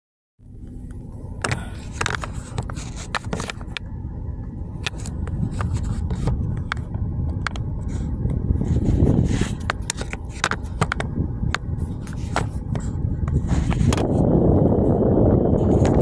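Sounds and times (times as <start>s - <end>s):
car cabin rumble: 0.4s - 16.0s.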